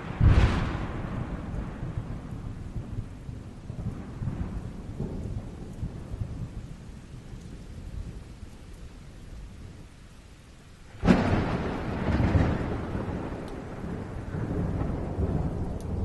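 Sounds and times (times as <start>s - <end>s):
rolling thunder: 0.0s - 8.3s, 10.9s - 16.0s
steady rain: 0.0s - 16.0s.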